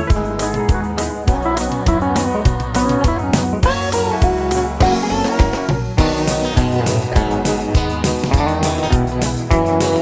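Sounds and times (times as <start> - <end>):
melodic electric guitar: 0.0 - 10.0
steady drum beat: 0.0 - 10.0.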